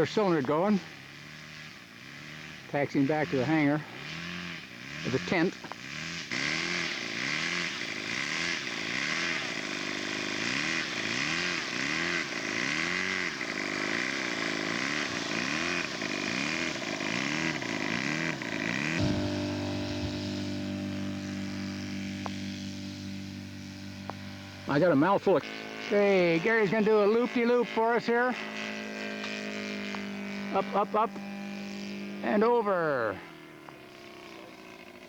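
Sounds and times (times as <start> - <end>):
model airplane engine running: 0.0 - 35.0.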